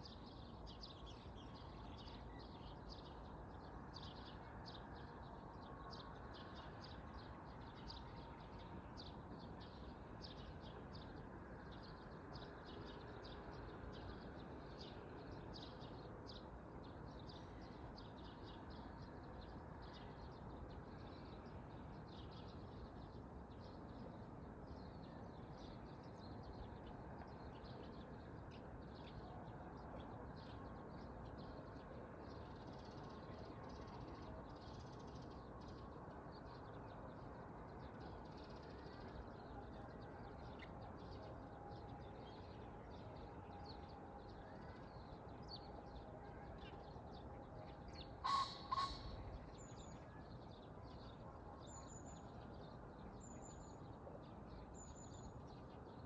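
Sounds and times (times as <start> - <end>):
low outdoor background rush: 0.0 - 56.0.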